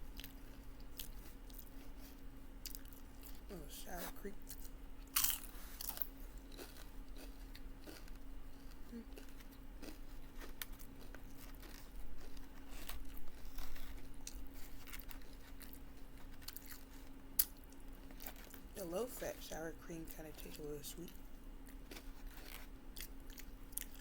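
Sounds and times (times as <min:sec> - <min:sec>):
chewing and crunching chips: 0:00.0 - 0:24.0.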